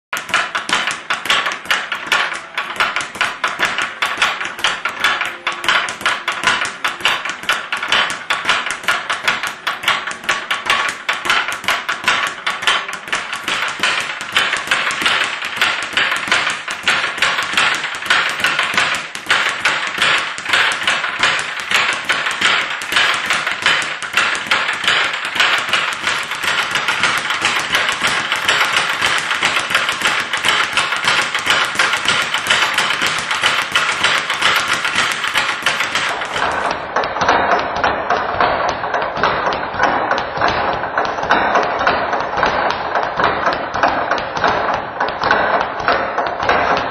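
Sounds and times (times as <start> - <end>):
speed bag rattling: 0.2 - 46.9.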